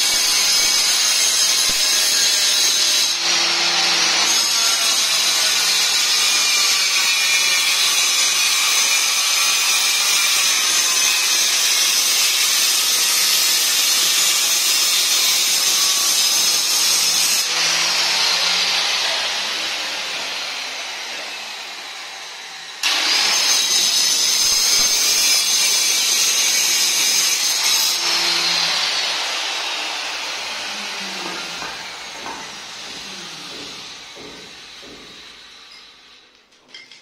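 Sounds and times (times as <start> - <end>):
electric marble cutter whining: 0.0 - 35.9.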